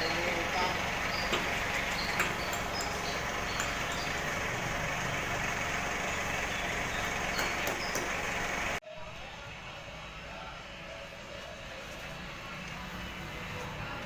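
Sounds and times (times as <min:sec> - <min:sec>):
engine running: 0:00.0 - 0:08.8, 0:09.6 - 0:14.0.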